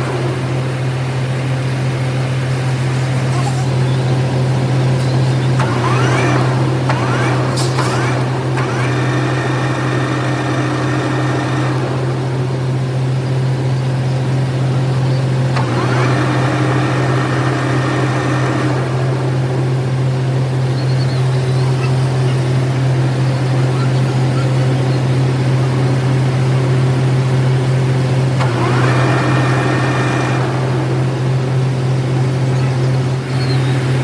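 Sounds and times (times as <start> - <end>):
machinery humming: 0.0 - 34.0
motor spinning up with whine: 0.0 - 34.0.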